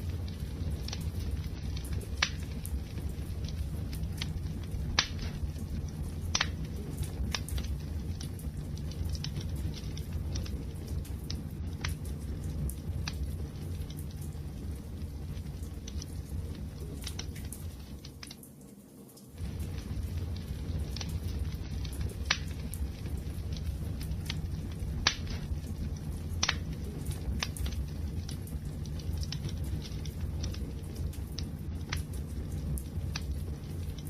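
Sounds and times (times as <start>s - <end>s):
flames rushing: 0.0s - 18.3s, 19.4s - 34.0s
burning wood crackling and popping: 0.0s - 34.0s.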